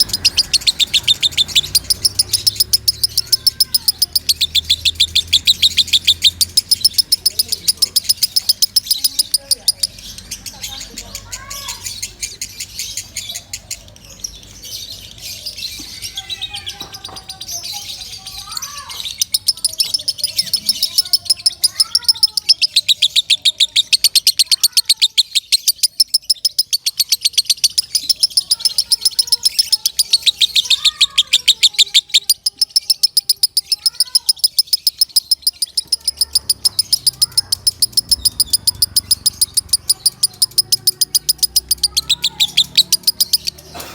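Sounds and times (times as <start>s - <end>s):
lovebird chirping: 0.0s - 43.9s.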